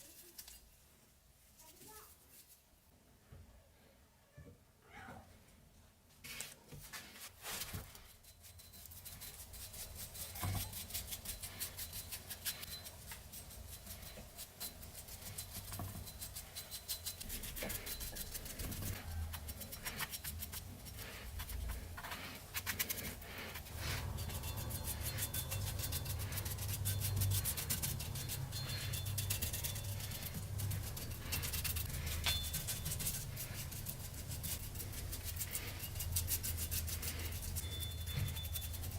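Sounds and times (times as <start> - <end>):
abrasive rubbing on metal: 7.4 - 38.9.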